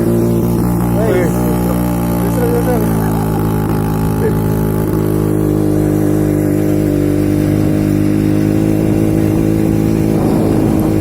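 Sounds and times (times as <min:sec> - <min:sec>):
two-stroke engine under load: 0:00.0 - 0:11.0.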